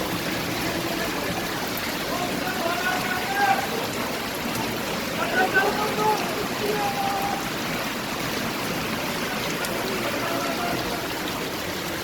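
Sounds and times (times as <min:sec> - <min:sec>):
running rainwater: 0:00.0 - 0:12.0.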